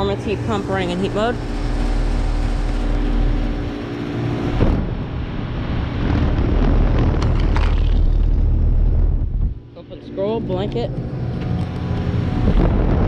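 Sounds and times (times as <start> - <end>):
heat pump fan rushing air: 0.0 - 13.0.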